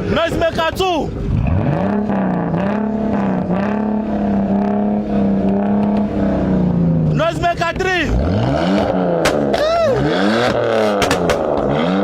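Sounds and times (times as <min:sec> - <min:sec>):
car engine revving: 0:01.1 - 0:12.0.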